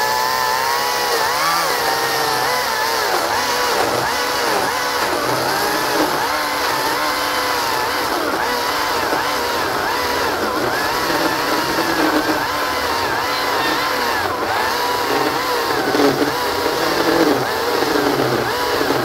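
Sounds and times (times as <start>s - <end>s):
electric chainsaw cutting log: 0.0s - 19.0s.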